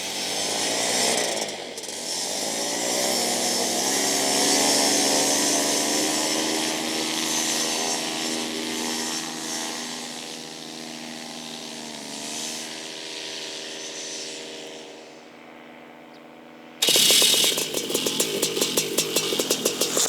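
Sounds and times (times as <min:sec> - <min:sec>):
paramotor engine running: 0:00.0 - 0:14.7, 0:16.8 - 0:20.0.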